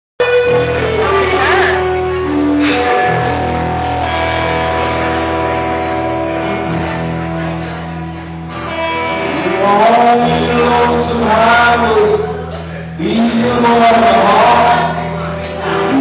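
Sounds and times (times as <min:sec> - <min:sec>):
bass: 0:00.2 - 0:16.0
drums: 0:00.2 - 0:16.0
electric guitar: 0:00.2 - 0:16.0.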